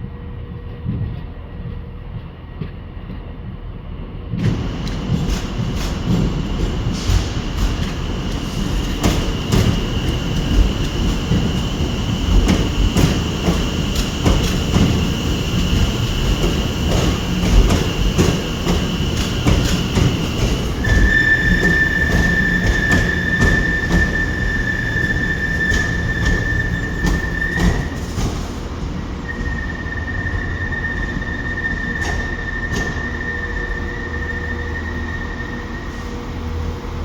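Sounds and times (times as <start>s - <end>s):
train rumble: 0.2s - 37.0s
wheel squeal: 4.5s - 28.6s, 29.2s - 36.4s.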